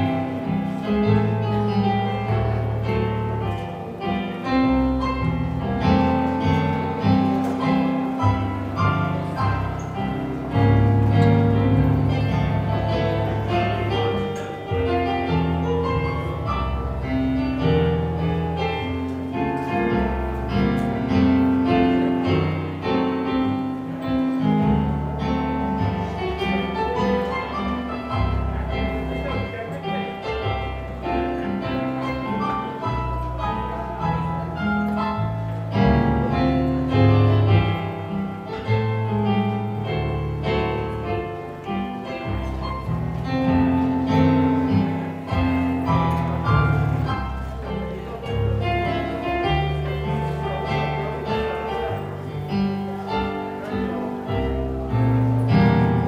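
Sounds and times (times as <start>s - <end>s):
slow piano music on keyboard: 0.0s - 56.0s.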